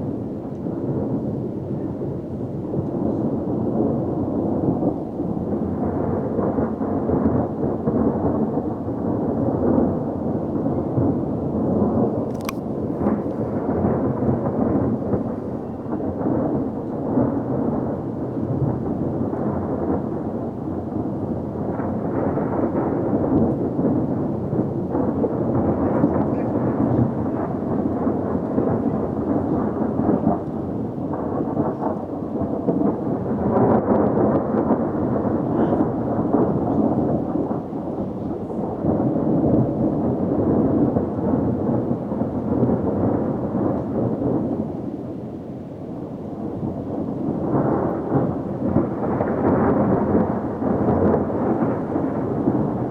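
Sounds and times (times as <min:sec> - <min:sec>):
rolling thunder: 0:00.0 - 0:52.9
steady rain: 0:00.0 - 0:52.9.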